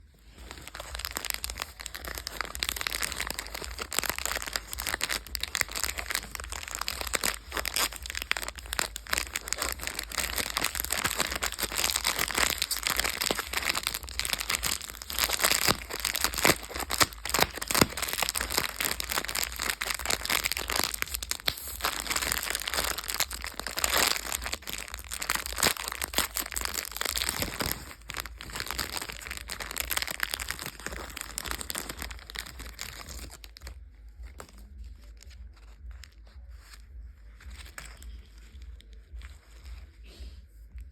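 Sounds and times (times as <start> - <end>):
wrappers crinkling: 0.0 - 39.9.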